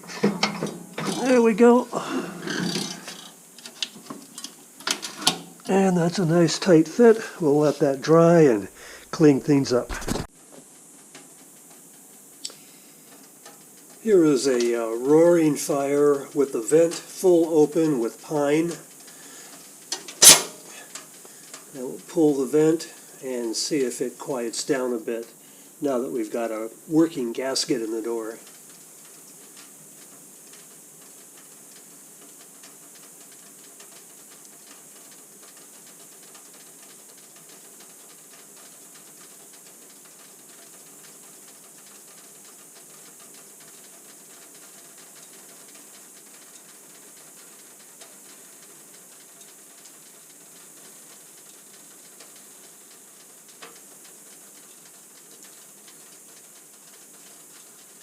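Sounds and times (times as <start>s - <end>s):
fire crackling: 0.0s - 58.0s
fire hissing in a wood stove: 0.0s - 58.0s.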